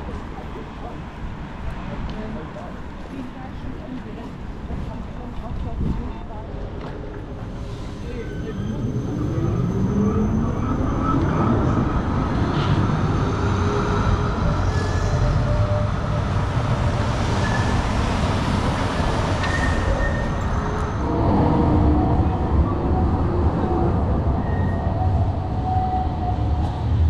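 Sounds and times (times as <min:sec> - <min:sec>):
tram rumbling past: 0:00.0 - 0:27.0.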